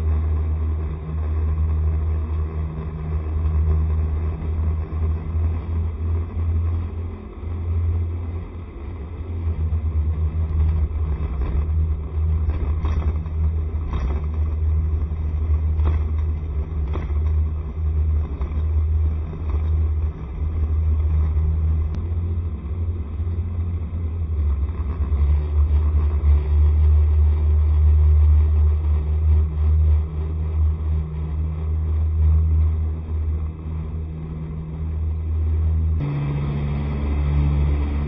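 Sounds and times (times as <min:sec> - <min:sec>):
scooter engine rumbling: 0:00.0 - 0:28.8, 0:31.8 - 0:38.0.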